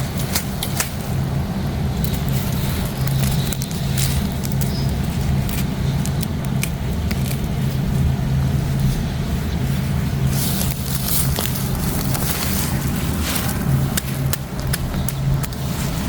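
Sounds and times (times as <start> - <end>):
crackles: 0.0 - 16.0
plants rustling being dug: 0.0 - 16.0
steady low rumble: 0.0 - 16.0.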